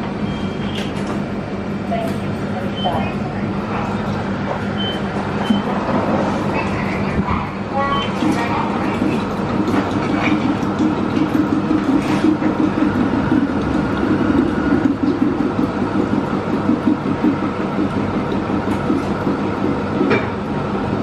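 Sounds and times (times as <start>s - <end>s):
vending machine pump humming: 0.0s - 21.0s.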